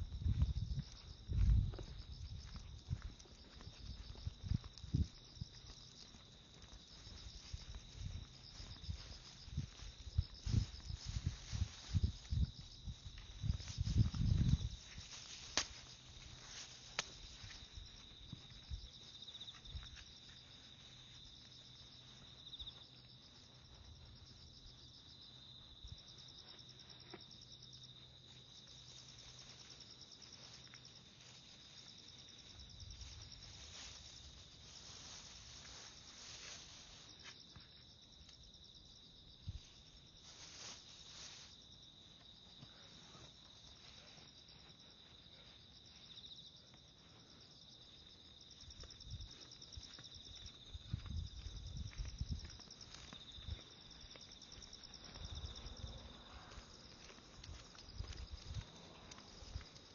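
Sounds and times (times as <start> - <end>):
faint footsteps: 0.0 - 59.9
insects trilling: 0.0 - 59.9
pulsing insect chirr: 0.0 - 59.9.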